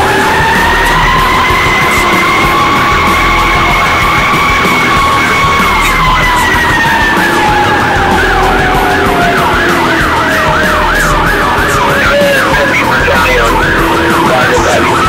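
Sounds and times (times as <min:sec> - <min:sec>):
fire engine siren yelping: 0:00.0 - 0:15.0.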